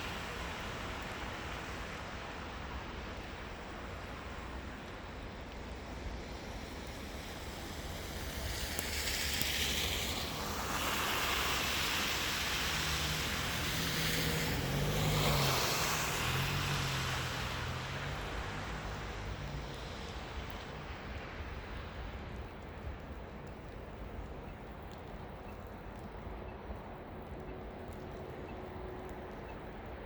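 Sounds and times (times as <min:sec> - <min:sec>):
low road rumble: 0:00.0 - 0:30.0.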